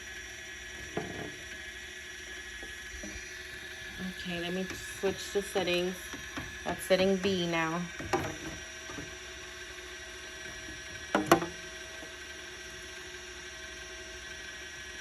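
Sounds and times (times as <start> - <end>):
faint electric hum: 0.0 - 15.0.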